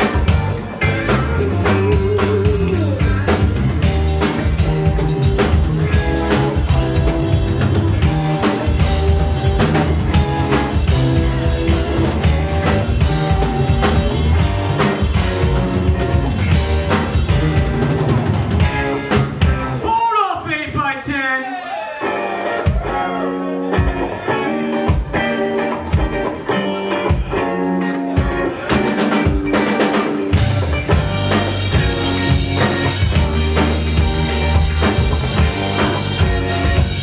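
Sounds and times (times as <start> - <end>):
drum kit beat: 0.0 - 21.0, 22.0 - 37.0
guitar: 0.0 - 37.0.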